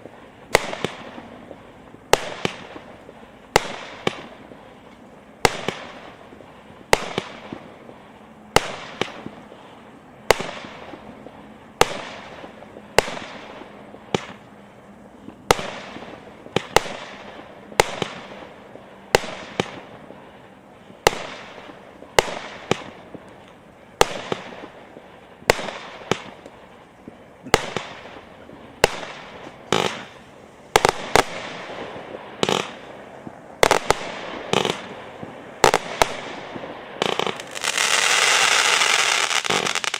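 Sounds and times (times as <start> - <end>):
fireworks bangs with crackling: 0.0 - 39.9.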